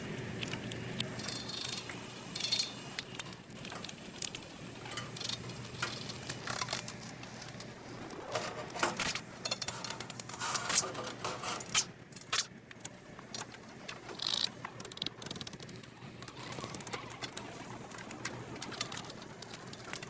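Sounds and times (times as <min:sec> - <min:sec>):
mechanical clicks: 0:00.2 - 0:20.0.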